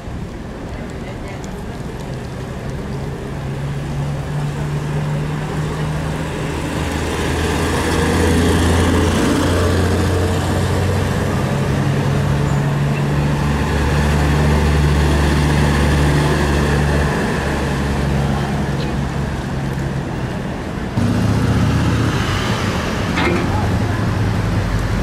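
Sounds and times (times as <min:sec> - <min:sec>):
minibus engines driving past: 0:00.4 - 0:25.0.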